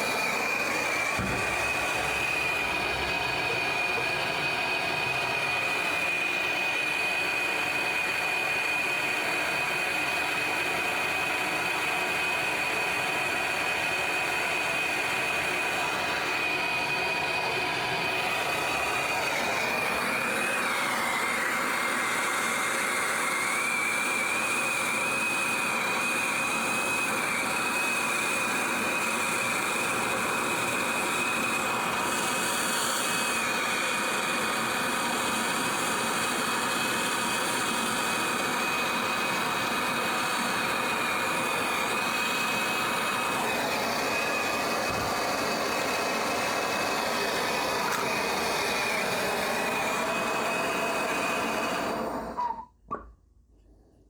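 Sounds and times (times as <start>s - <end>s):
gas torch hissing and whistling: 0.0s - 52.8s.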